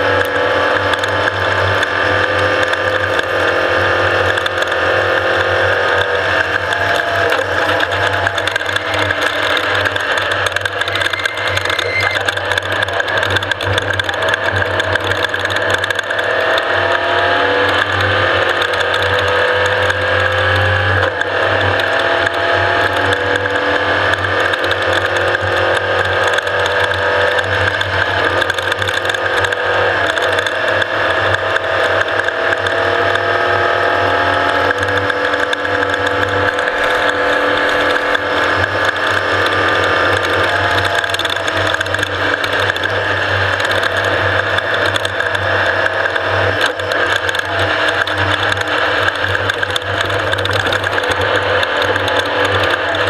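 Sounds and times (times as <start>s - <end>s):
race vehicle engine whine: 0.0s - 53.0s
mechanical rattle: 0.2s - 16.8s, 17.6s - 53.0s.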